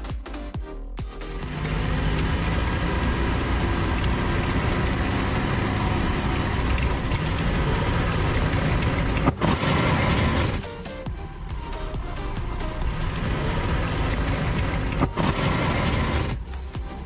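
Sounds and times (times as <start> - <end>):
car engine running: 1.2 - 17.0.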